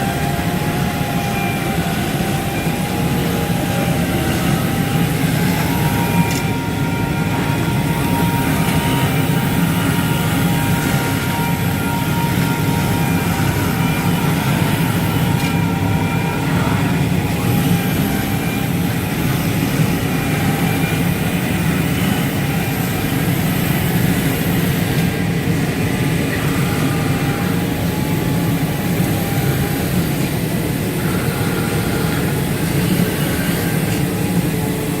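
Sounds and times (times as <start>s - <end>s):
cutting machine droning: 0.0s - 35.0s
high machine whine: 0.0s - 35.0s.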